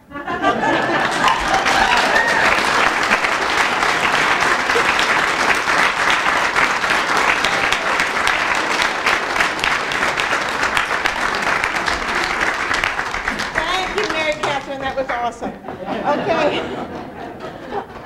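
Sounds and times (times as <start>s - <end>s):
audience applauding: 0.3s - 18.0s.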